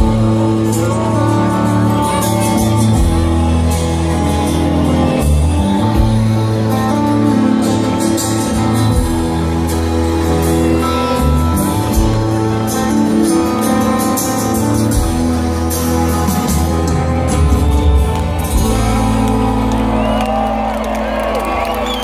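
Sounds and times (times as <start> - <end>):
bass guitar: 0.0 - 22.0
drums: 0.0 - 22.0
electric guitar chords: 0.0 - 22.0.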